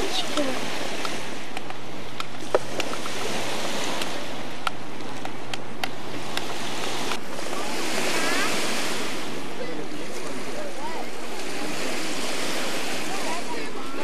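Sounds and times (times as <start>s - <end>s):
waves washing onto beach: 0.0s - 14.0s.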